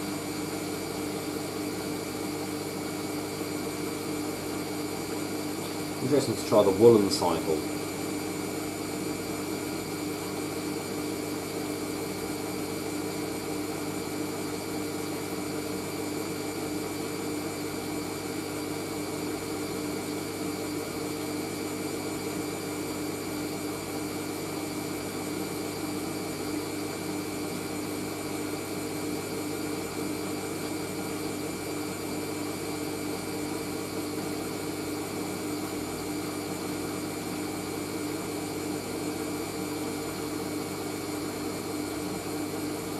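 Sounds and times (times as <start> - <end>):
washing machine spinning: 0.0 - 7.0, 7.6 - 42.9.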